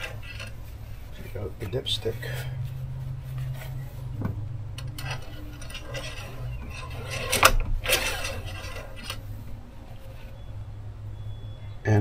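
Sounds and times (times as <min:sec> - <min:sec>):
dipstick rubbing and scraping: 0:00.0 - 0:10.5
steady low hum: 0:00.0 - 0:11.6.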